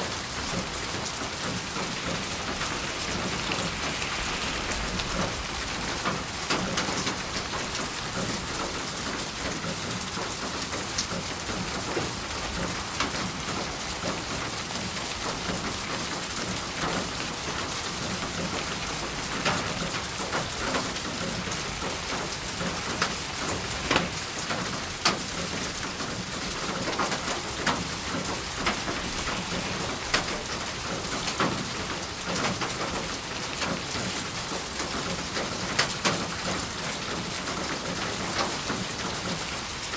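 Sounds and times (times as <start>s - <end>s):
raindrops splashing close by: 0.0s - 39.9s
steady rain hiss: 0.0s - 39.9s.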